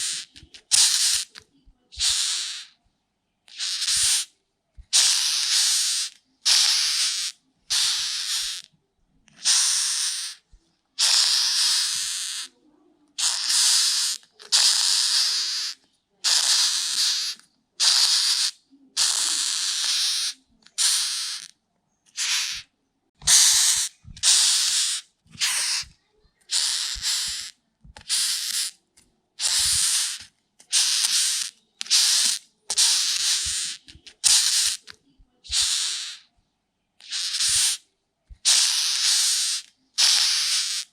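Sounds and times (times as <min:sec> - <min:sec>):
beetle hissing: 0:00.0 - 0:01.4, 0:02.0 - 0:02.8, 0:03.5 - 0:04.3, 0:04.9 - 0:08.7, 0:09.4 - 0:10.4, 0:11.0 - 0:12.5, 0:13.2 - 0:21.5, 0:22.1 - 0:28.8, 0:29.4 - 0:34.9, 0:35.5 - 0:36.3, 0:37.0 - 0:37.8, 0:38.4 - 0:40.9.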